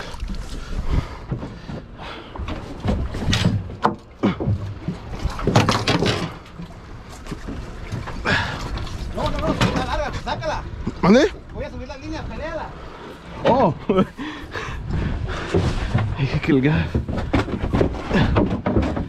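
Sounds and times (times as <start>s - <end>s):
water splashing against boat: 0.0s - 19.0s
wind: 0.0s - 19.0s
knocks and bumps on boat: 0.2s - 11.3s, 13.4s - 14.1s, 14.8s - 19.0s.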